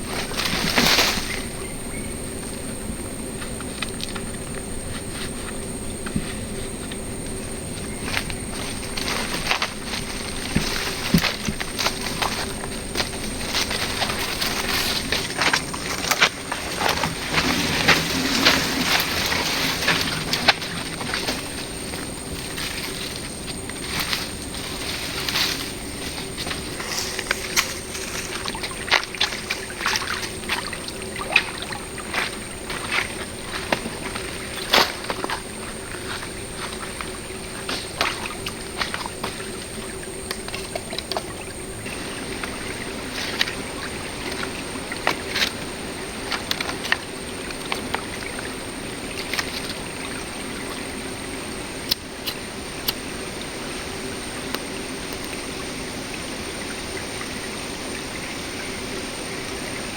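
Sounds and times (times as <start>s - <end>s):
shallow river water flowing: 0.0s - 59.9s.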